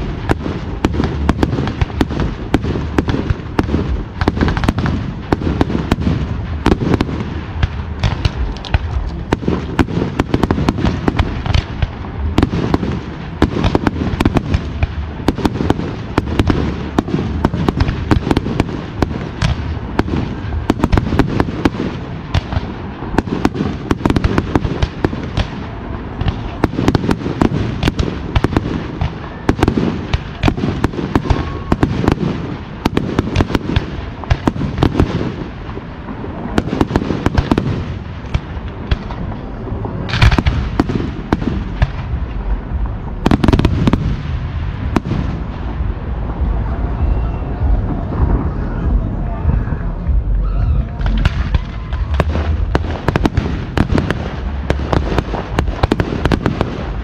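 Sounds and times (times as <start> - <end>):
fireworks bursts and crackles: 0.0 - 57.0
low rumble: 0.0 - 57.0.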